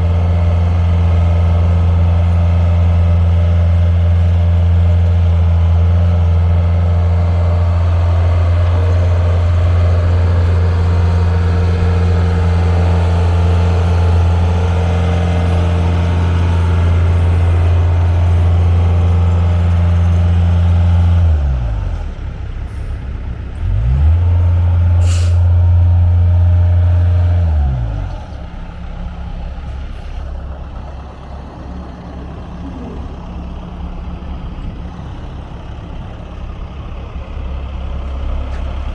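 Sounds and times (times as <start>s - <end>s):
diesel engine revving and idling: 0.0s - 38.9s.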